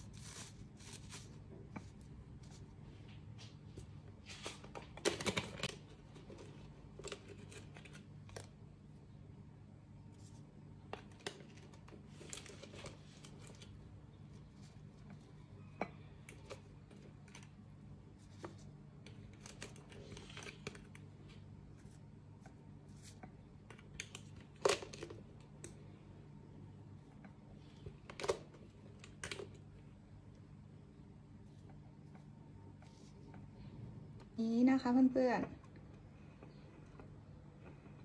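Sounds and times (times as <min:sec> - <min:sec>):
steady low hum: 0:05.6 - 0:38.0.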